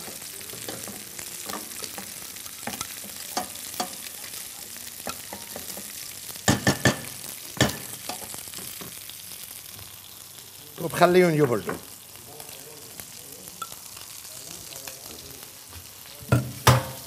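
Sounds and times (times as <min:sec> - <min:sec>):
food sizzling: 0:00.0 - 0:17.0.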